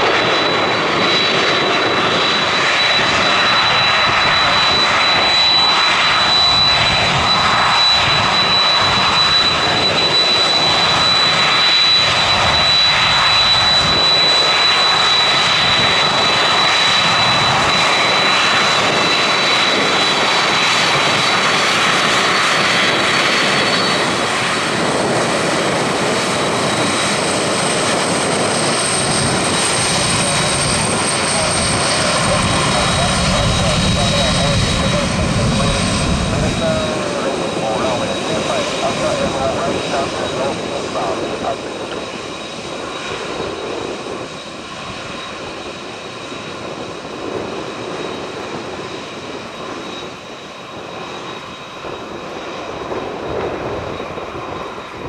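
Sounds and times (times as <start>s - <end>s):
high engine whine: 0.0s - 55.0s
jet engines rushing: 0.0s - 55.0s.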